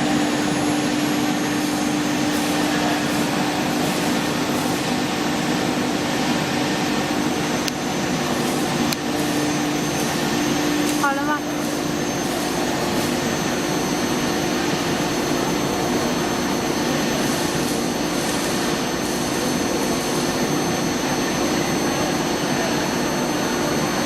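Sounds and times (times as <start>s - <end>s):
router machine whirring: 0.0s - 24.0s.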